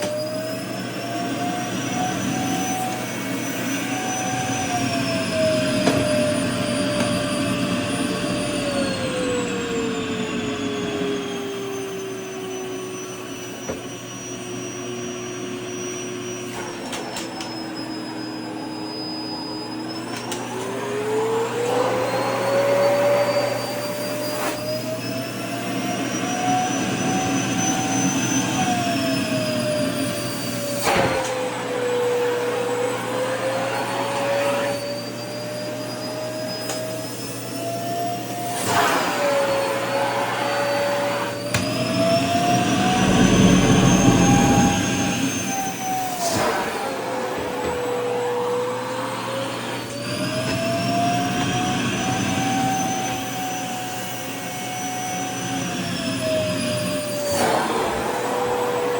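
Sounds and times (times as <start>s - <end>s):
vacuum cleaner running: 0.0s - 58.9s.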